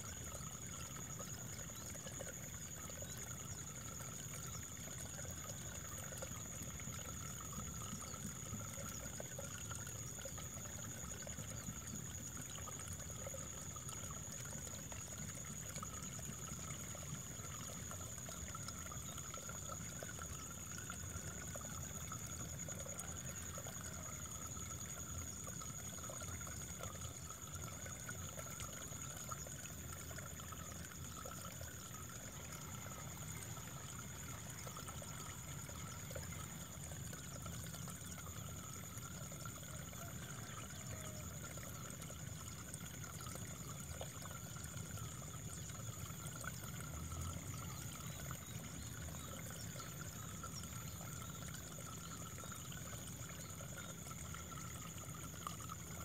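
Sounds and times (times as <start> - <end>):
running water flowing: 0.0 - 56.0.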